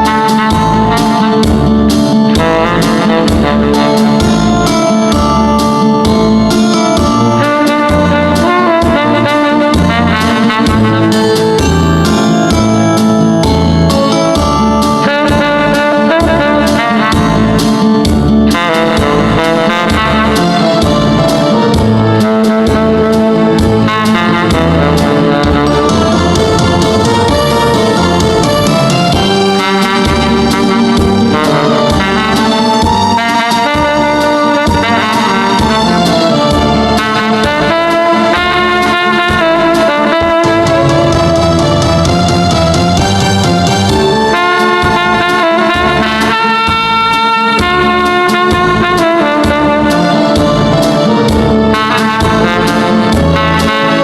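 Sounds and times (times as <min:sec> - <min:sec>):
backing track bass and drums: 0:00.0 - 0:54.0
tenor saxophone melody: 0:00.0 - 0:54.0.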